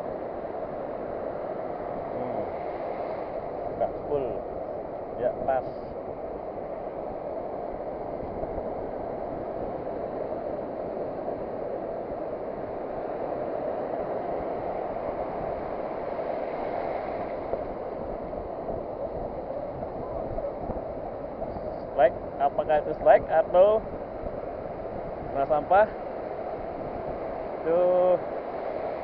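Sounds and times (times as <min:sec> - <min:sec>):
ocean surf on a beach: 0:00.0 - 0:29.0.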